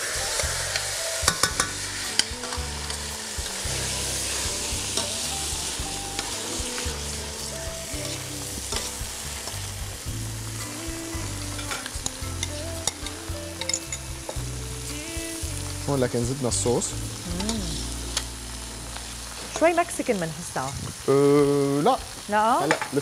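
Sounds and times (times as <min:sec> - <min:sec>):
meat sizzling in a frying pan: 0:00.0 - 0:23.0.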